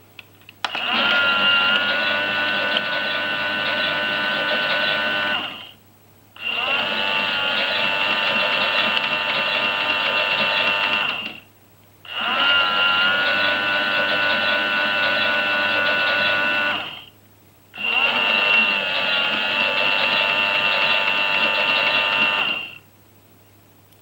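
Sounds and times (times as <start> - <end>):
toy washing machine motor whining: 0.7 - 5.7, 6.4 - 11.4, 12.1 - 17.1, 17.8 - 22.8.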